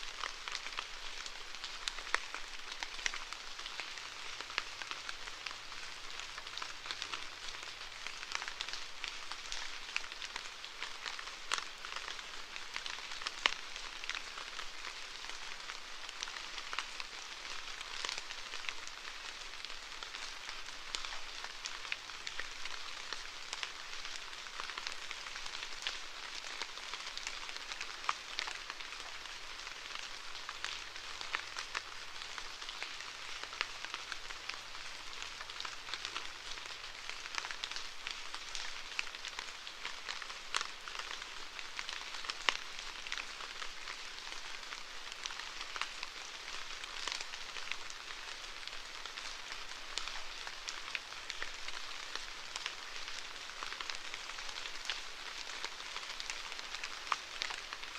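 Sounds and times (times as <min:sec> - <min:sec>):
steady rainfall: 0:00.0 - 0:57.9.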